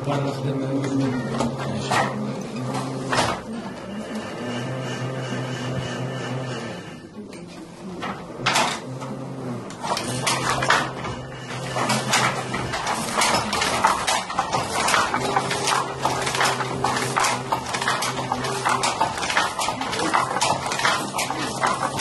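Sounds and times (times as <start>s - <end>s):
wooden hand loom clattering: 0.0s - 6.6s, 7.4s - 22.0s.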